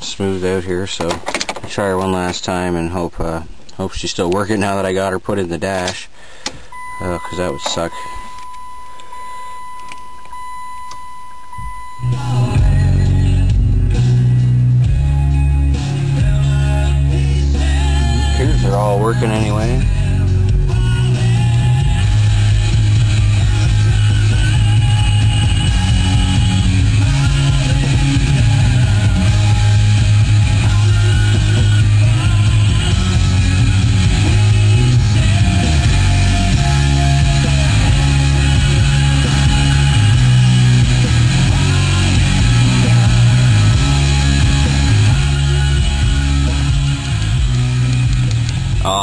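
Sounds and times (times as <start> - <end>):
rock music on car stereo: 6.4 - 49.0.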